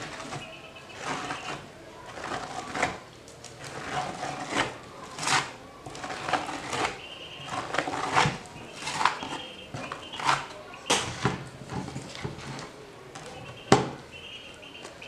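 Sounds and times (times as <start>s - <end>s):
spatula scraping filler on panel: 0.0s - 12.7s.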